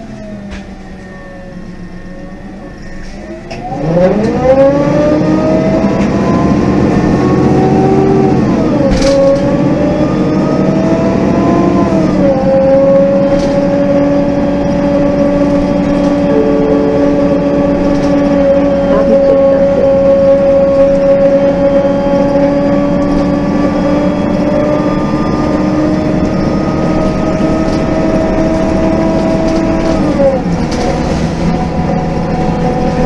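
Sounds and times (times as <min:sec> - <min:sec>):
bus engine revving: 0:00.0 - 0:33.0.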